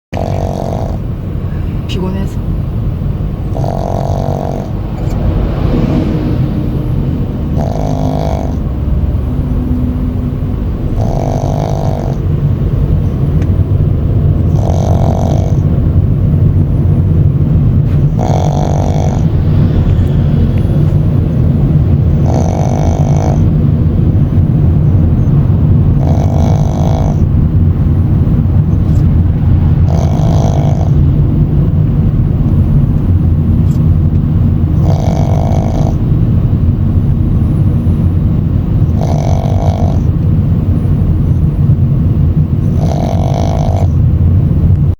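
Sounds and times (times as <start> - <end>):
puppy snoring: 0.1 - 2.4, 3.4 - 13.8, 14.4 - 44.8
low rumble of moving car: 0.1 - 44.9.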